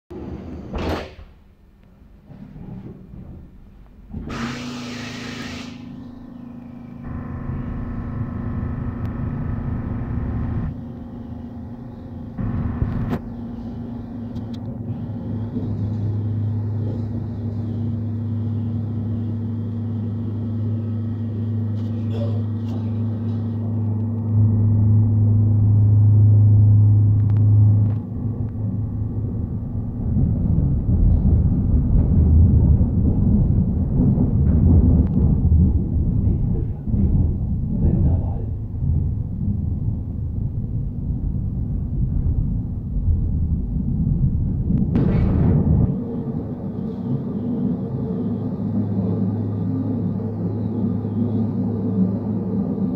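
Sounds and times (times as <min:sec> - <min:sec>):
low steady hum: 0:00.1 - 0:52.9
train wheels rumbling: 0:05.8 - 0:52.9.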